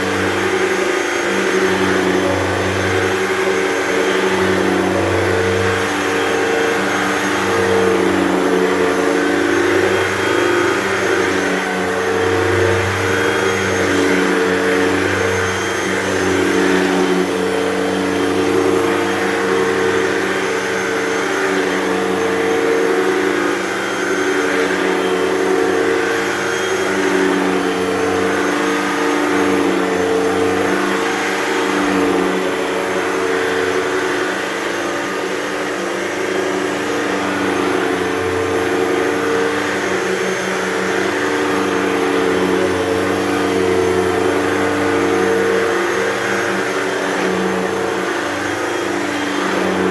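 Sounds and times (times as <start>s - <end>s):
vacuum cleaner on carpet: 0.0s - 49.9s.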